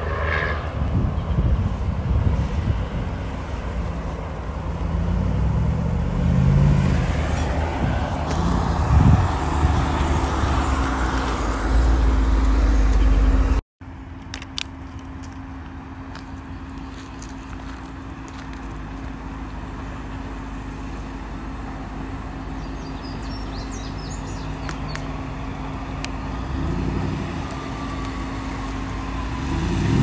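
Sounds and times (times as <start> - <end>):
engine running and revving: 0.0 - 13.6, 16.1 - 30.0.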